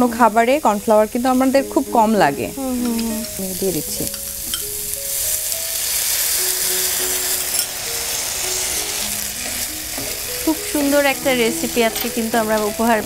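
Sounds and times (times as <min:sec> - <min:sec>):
food sizzling in a frying pan: 0:00.0 - 0:13.0
soft background music: 0:00.0 - 0:13.0.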